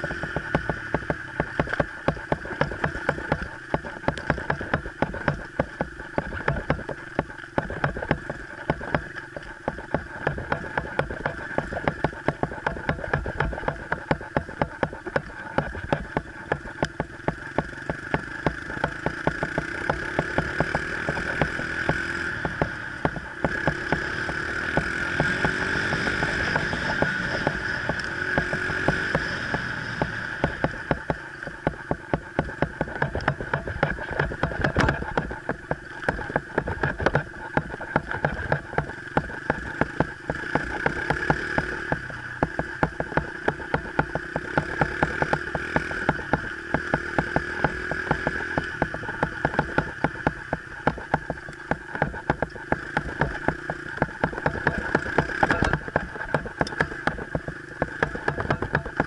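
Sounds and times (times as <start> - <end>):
dirt bike engine revving: 0.0 - 59.0
sharp clicks: 0.0 - 59.0.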